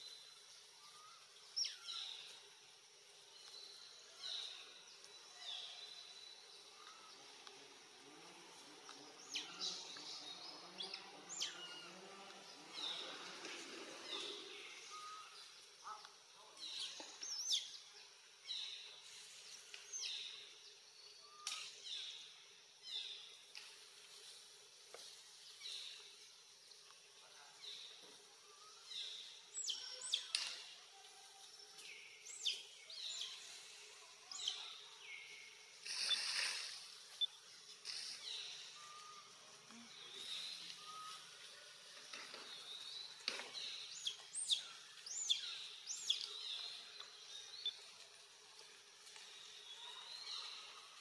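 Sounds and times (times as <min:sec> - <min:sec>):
rustle: 0:00.0 - 0:51.0.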